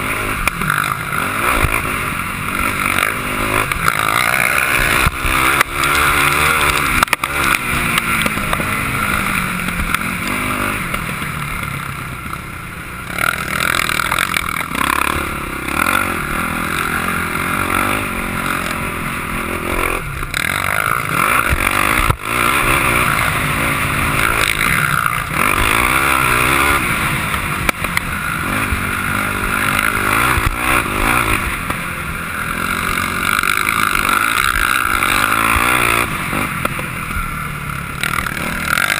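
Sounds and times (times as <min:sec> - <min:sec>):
quad engine revving: 0:00.0 - 0:38.9.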